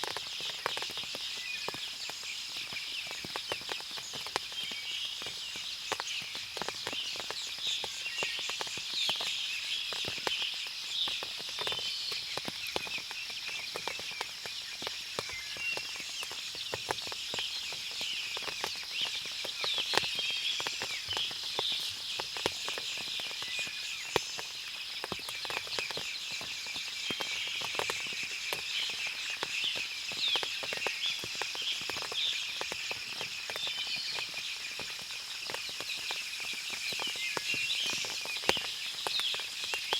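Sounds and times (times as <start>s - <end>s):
water drips: 0.0s - 39.9s
birds chirping: 0.1s - 39.9s.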